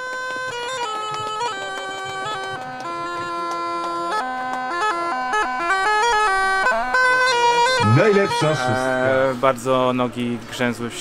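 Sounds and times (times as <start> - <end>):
bagpipes playing a melody: 0.0 - 9.5.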